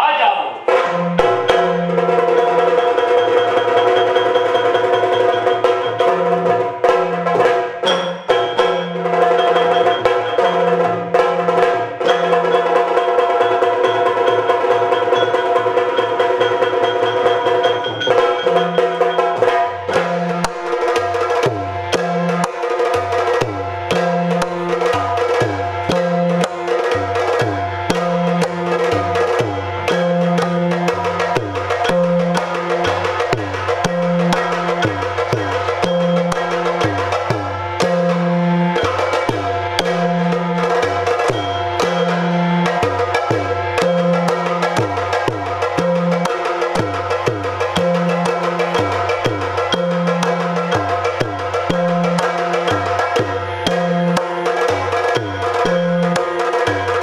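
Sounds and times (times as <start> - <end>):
rapid drum strokes: 0.0 - 57.0.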